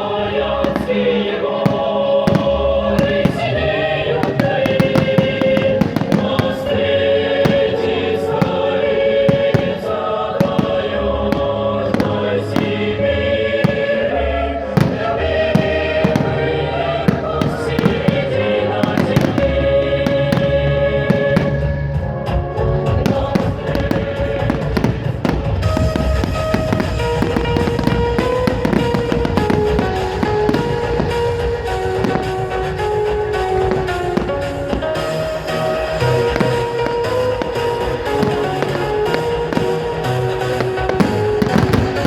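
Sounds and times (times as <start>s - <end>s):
choral music: 0.0s - 42.0s
fireworks bangs and pops: 0.0s - 42.0s.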